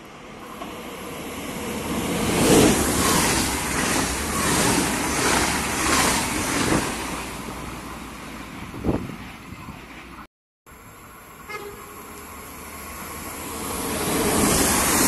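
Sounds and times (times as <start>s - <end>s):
train rushing past: 0.2s - 9.7s, 10.8s - 15.0s.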